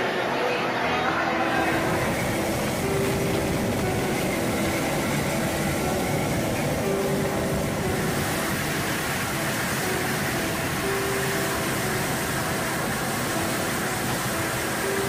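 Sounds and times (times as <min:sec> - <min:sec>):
helicopter engine and rotor: 0:01.7 - 0:15.0.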